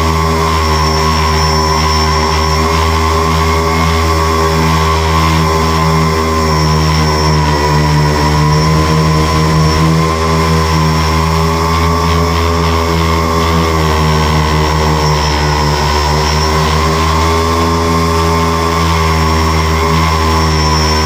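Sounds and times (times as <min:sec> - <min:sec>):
drone motors and propellers: 0:00.0 - 0:21.0.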